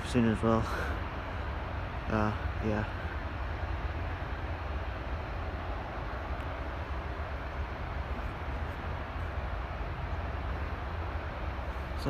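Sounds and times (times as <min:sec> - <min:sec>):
distant aircraft engine rumble: 0:00.0 - 0:12.0.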